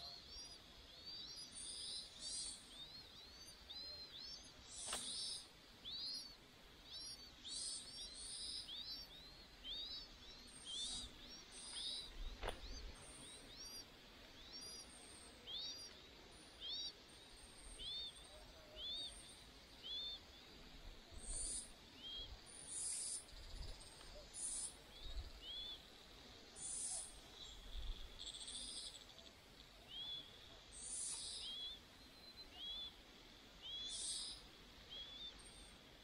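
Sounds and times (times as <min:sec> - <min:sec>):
faint high bird chirps: 0:00.0 - 0:33.0, 0:33.6 - 0:35.8.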